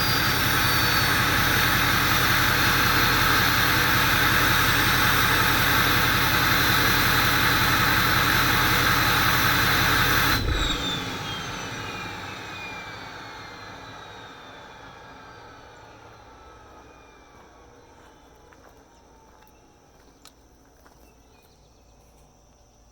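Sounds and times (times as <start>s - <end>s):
diesel engine running: 0.0s - 20.3s.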